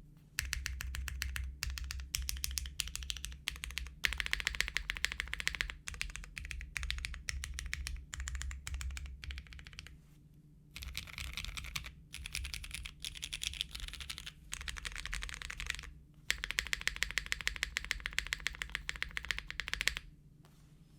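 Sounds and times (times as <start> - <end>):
mechanical keyboard typing: 0.4 - 9.9, 10.8 - 20.0.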